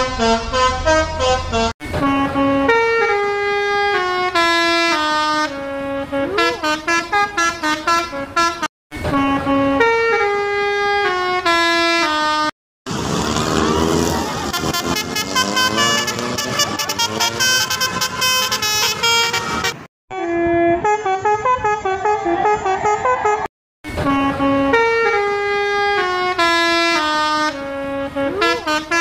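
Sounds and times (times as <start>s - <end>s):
bus musical horn playing a tune: 0.0s - 12.5s, 13.8s - 29.0s
horn tune with wavering notes: 0.0s - 12.5s, 13.4s - 29.0s
street noise: 0.0s - 29.0s.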